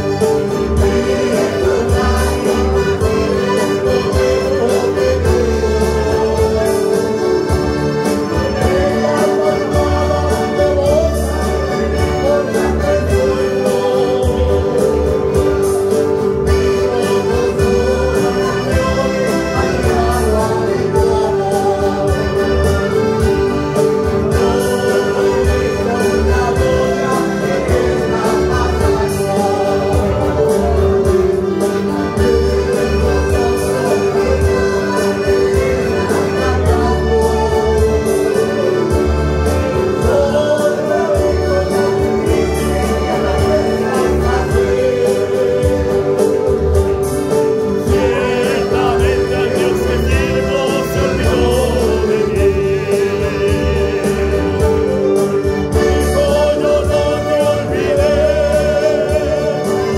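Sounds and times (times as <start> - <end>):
choir singing with band: 0.0 - 59.9.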